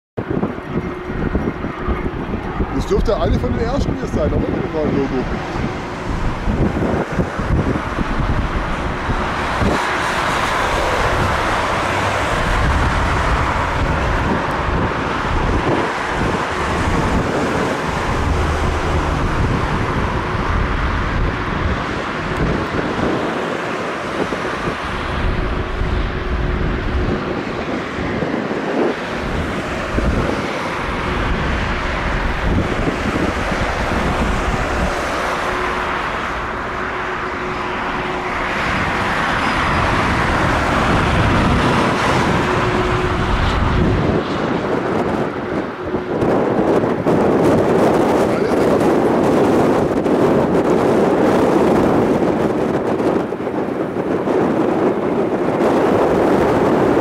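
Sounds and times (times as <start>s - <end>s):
jet engines running: 0.2s - 57.0s
wind buffeting microphone: 0.2s - 57.0s.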